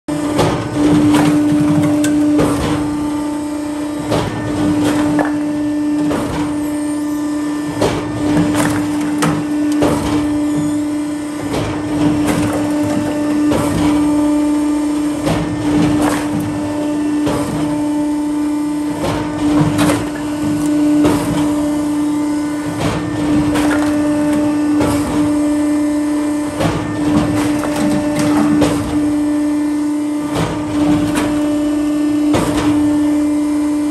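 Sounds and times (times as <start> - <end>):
hydraulic power unit hum: 0.1 - 33.9.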